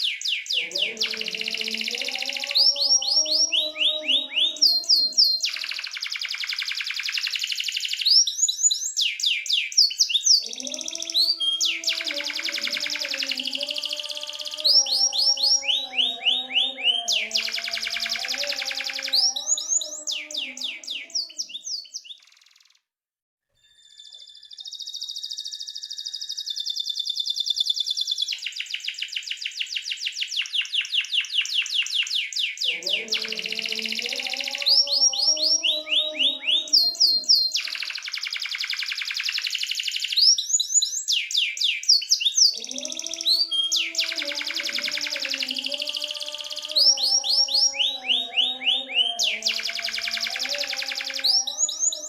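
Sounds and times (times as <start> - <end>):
canary singing trills: 0.0 - 22.8, 23.6 - 52.0.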